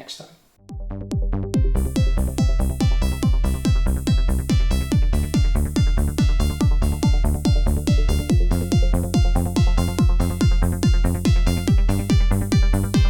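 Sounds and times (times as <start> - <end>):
kick drum beat: 0.7 - 13.0
sustained synth chords: 0.7 - 13.0.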